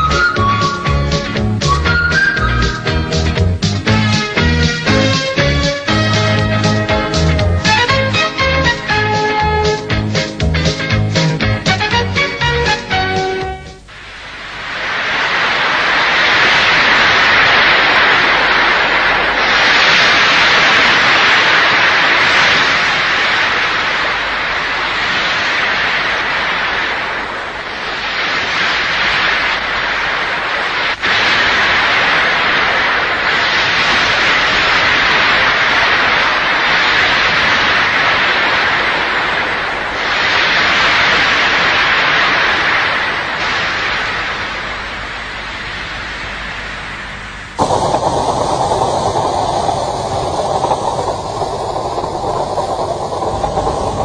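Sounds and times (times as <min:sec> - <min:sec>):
sea water rushing and breaking: 0:00.0 - 0:09.9, 0:11.3 - 0:54.0.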